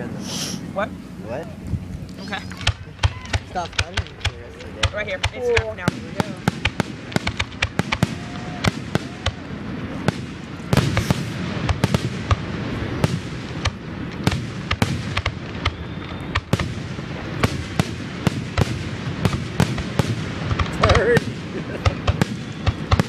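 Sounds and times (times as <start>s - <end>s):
rumble of explosions: 0.0s - 23.0s
fireworks cracks and bangs: 1.7s - 23.0s.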